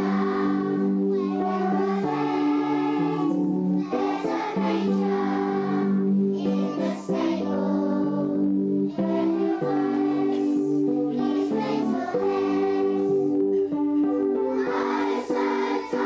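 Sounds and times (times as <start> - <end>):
children singing in unison: 0.0 - 13.7, 14.3 - 16.0.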